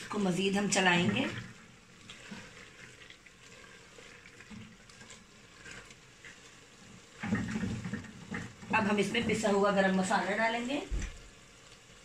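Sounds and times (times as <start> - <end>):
spatula scraping and stirring: 0.0 - 10.6
curry sizzling: 0.0 - 12.0.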